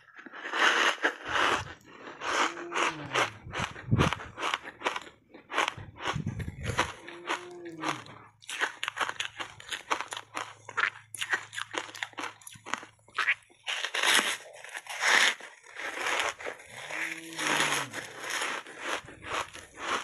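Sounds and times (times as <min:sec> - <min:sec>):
ice crunching being chewed: 0:00.0 - 0:20.0.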